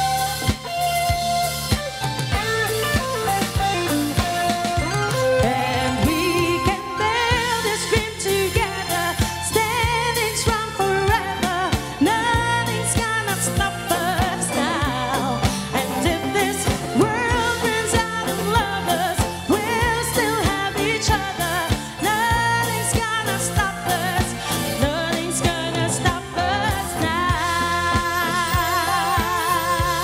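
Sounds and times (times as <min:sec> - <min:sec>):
live pop band: 0:00.0 - 0:30.0
woman singing with vibrato: 0:02.4 - 0:30.0.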